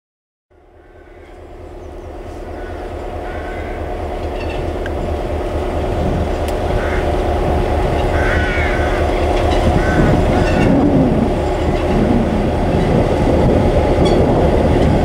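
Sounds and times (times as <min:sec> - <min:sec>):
diesel locomotive engine throbbing: 0:00.5 - 0:15.0.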